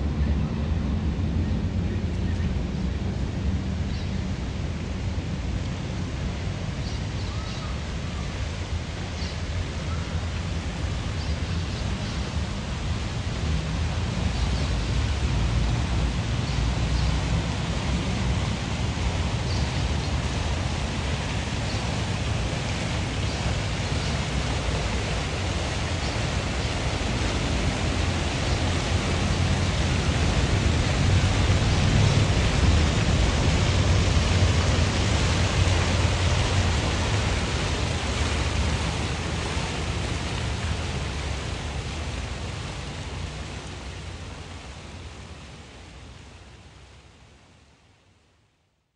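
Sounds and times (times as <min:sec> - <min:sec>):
steady rushing noise: 0:00.0 - 0:47.8.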